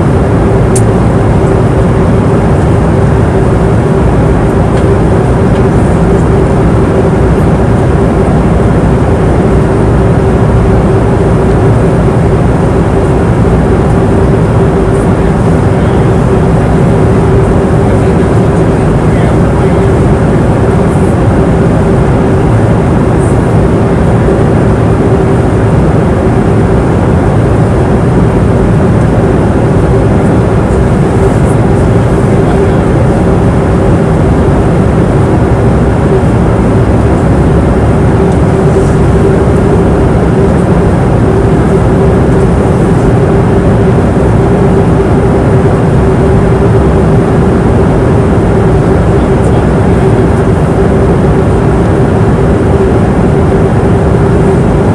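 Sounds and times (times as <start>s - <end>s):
airliner cabin engine noise: 0.0s - 54.9s
constant droning tone: 0.0s - 54.9s.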